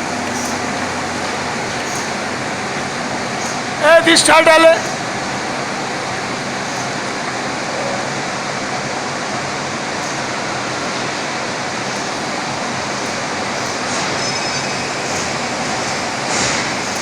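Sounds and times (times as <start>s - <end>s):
gas singeing machine running: 0.0s - 17.0s.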